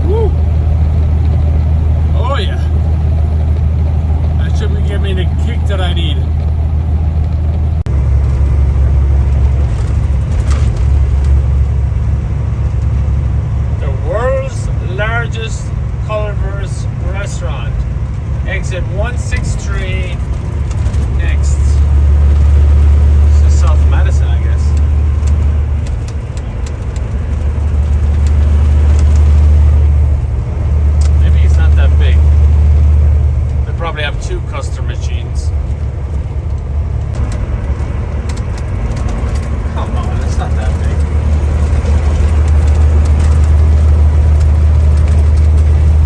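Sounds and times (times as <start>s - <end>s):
truck engine and road rumble: 0.0s - 46.0s.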